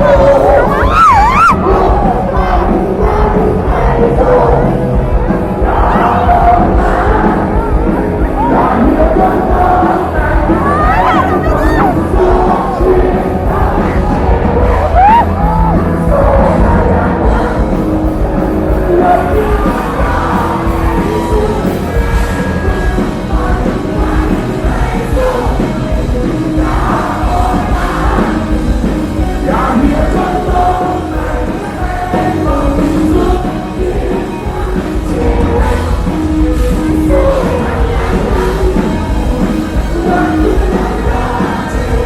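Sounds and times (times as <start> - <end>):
live rock band playing: 0.0 - 42.0
person singing: 0.0 - 42.0.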